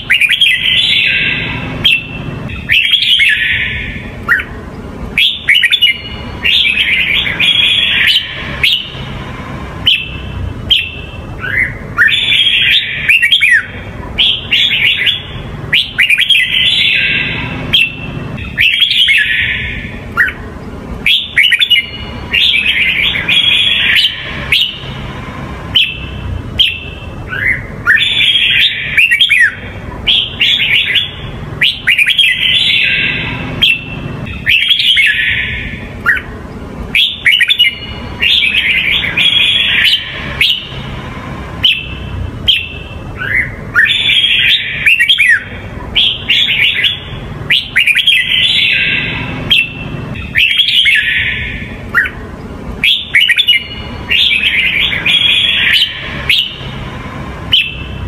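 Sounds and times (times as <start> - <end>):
bulbul whistled song: 0.0 - 20.4, 21.0 - 36.3, 36.9 - 52.2, 52.8 - 58.0
steady low rumble: 0.0 - 58.0.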